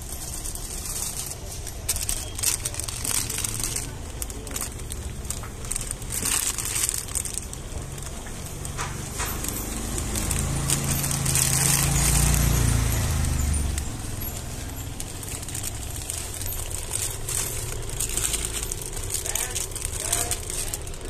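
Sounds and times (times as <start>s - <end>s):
low engine hum: 0.0s - 21.0s
plastic bags crinkling: 0.0s - 21.0s.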